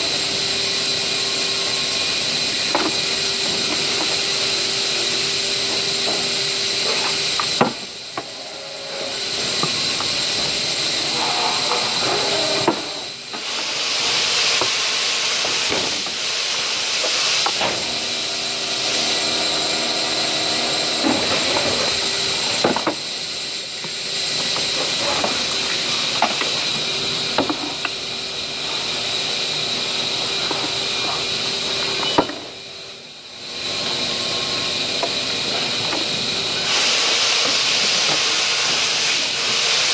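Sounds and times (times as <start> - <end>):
steady loud hiss: 0.0 - 39.9.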